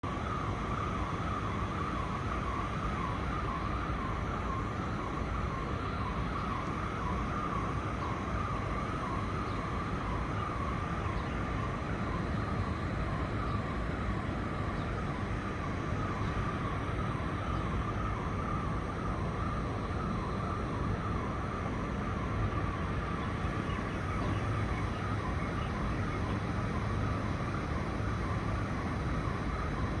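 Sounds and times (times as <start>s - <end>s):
low city rumble: 0.0s - 30.0s.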